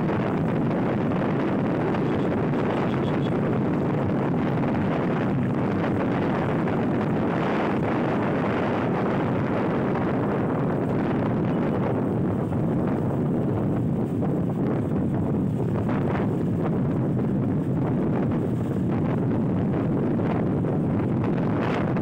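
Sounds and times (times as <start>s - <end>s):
road and traffic noise: 0.0s - 22.0s
wind rushing over microphone: 0.0s - 22.0s.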